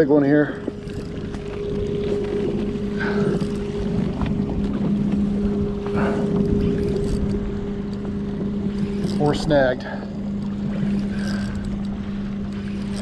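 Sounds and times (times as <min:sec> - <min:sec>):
outboard motor humming: 0:00.0 - 0:13.0
water noise: 0:00.0 - 0:13.0.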